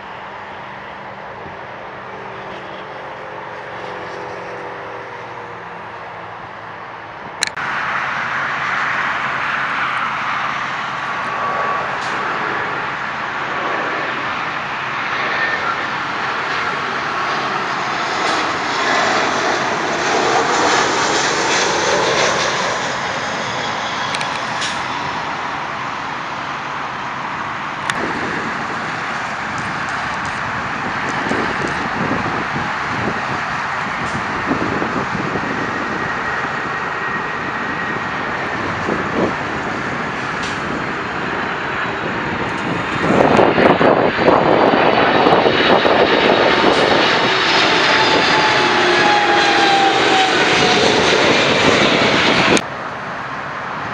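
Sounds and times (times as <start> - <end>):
jet airliner passing overhead: 0.0 - 53.9.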